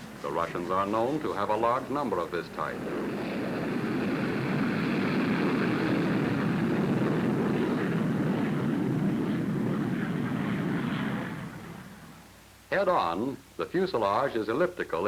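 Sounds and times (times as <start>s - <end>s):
aircraft engine drone: 0.0s - 12.6s.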